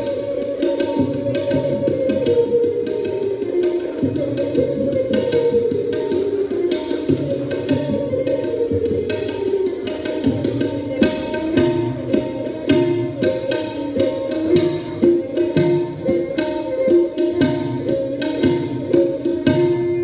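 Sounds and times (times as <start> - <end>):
bowed string instrument melody: 0.0 - 20.0
tabla strokes: 0.0 - 20.0.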